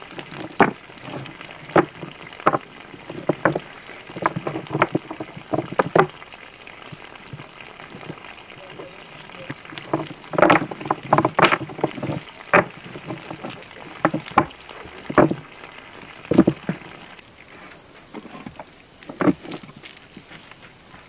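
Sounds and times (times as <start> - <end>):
water splashes: 0.0 - 20.3.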